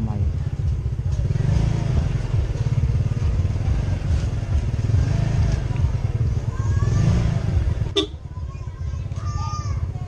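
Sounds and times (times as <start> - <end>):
motorcycle engine rumbling: 0.0 - 10.0.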